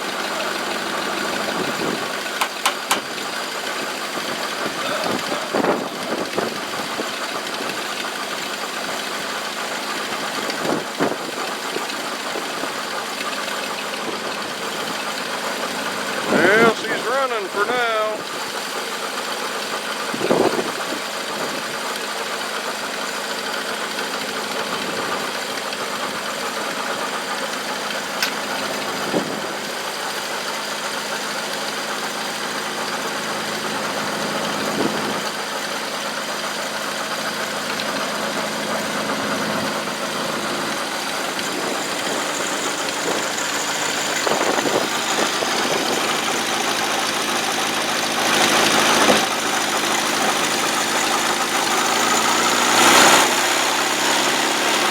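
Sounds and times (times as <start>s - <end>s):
engine idling: 0.0s - 54.9s
engine knocks: 0.0s - 54.9s.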